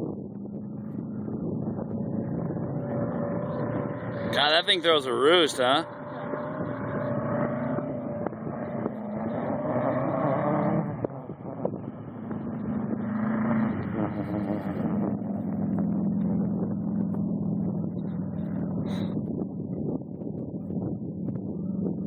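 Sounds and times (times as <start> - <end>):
buggy engine under throttle: 0.0 - 22.0.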